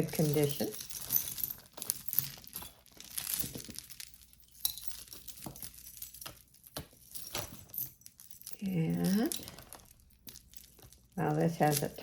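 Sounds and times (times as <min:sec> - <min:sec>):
bag crinkling: 0:00.0 - 0:12.0
jewelry clicking and clinking: 0:00.0 - 0:12.0.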